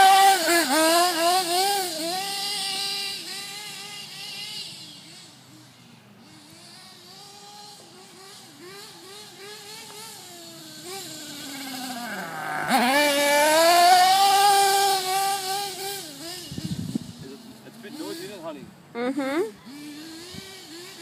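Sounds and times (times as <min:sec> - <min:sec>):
rc truck engine revving: 0:00.0 - 0:21.0.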